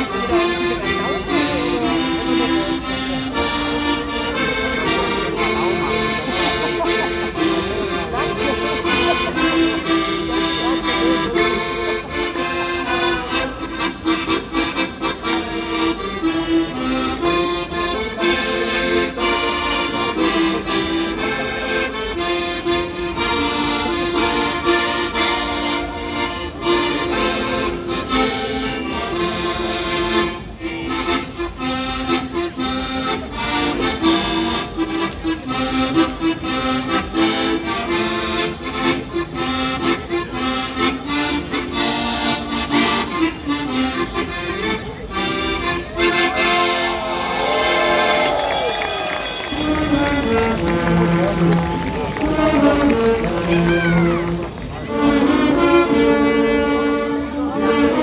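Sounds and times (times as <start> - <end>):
accordion dance tune: 0.0 - 58.0.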